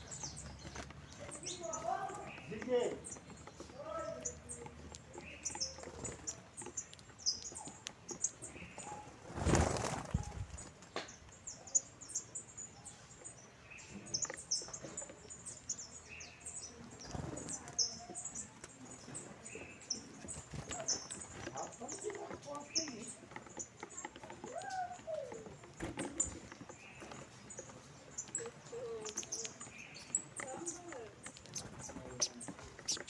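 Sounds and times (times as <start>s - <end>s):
finches chirping: 0.0s - 33.0s.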